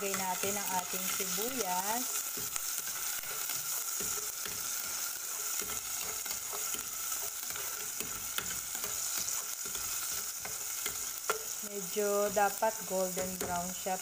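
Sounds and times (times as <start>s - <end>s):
spatula stirring in pot: 0.0s - 11.6s
aromatics sizzling in hot oil: 0.0s - 14.0s.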